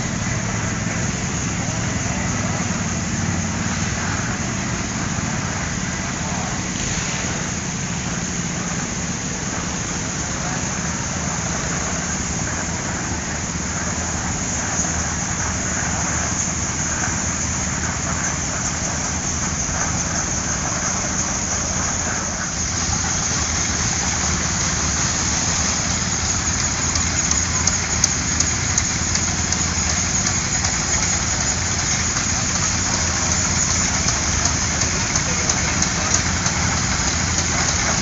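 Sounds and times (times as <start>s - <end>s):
steady hiss: 0.0s - 38.0s
tractor engines passing by: 0.0s - 38.0s.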